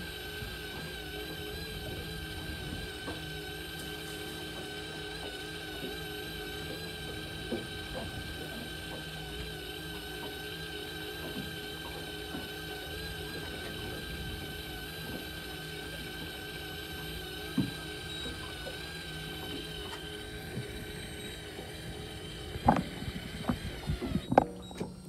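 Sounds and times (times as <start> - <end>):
fishing reel winding whine: 0.0 - 25.0.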